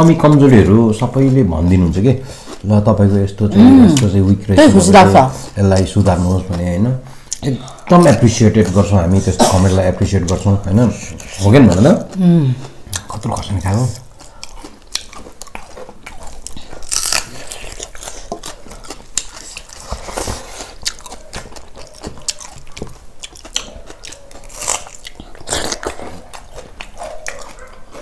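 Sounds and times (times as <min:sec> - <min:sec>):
chewing and crunching fried food: 0:00.0 - 0:28.0.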